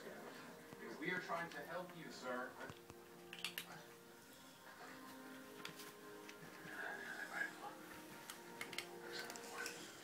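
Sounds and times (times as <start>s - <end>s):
faint television sound: 0.0s - 10.0s.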